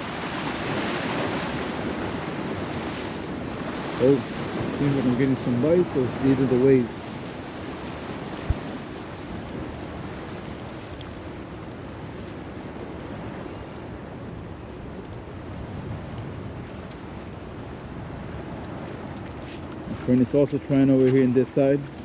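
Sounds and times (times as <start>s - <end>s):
surf washing over rocks: 0.0s - 22.0s
wind buffeting microphone: 0.0s - 22.0s.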